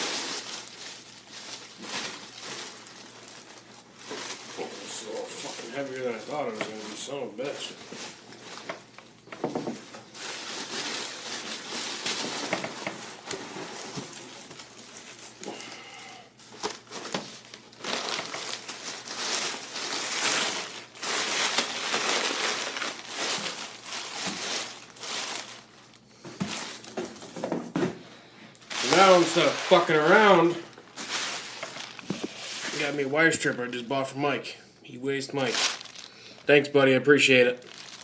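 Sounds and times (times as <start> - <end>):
bubble wrap crinkling: 0.0 - 27.4, 28.5 - 34.2, 35.1 - 38.0.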